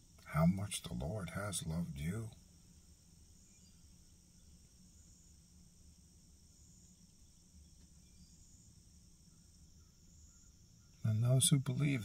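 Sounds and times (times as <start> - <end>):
insects trilling: 0.0 - 12.0
low hum: 0.0 - 12.0.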